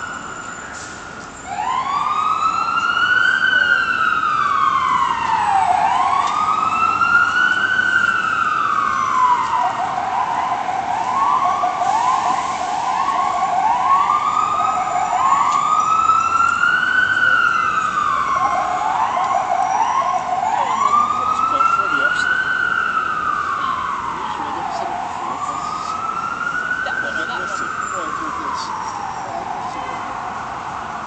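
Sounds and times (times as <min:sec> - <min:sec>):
emergency vehicle siren wailing: 0:00.0 - 0:31.0.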